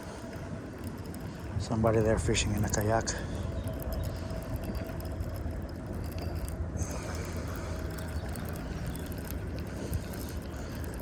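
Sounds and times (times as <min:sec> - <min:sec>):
fishing reel clicking and whirring: 0:00.0 - 0:11.0.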